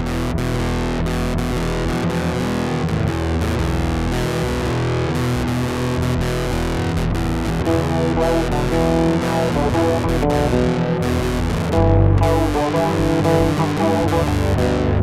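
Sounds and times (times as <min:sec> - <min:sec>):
distorted electric guitar music: 0:00.0 - 0:15.0.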